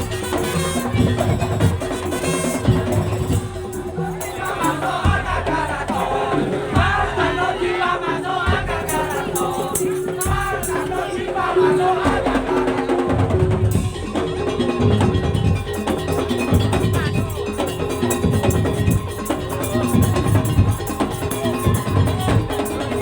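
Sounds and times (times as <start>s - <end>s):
wavering melody: 0.0s - 23.0s
wooden slit drums and percussion: 0.0s - 23.0s.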